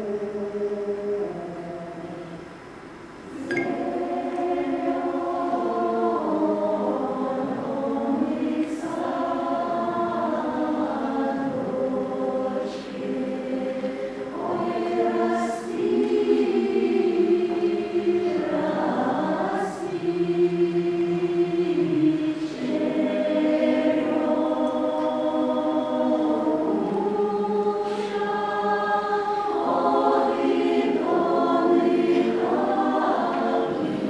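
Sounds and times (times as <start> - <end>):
folk choir singing a cappella: 0.0 - 34.0.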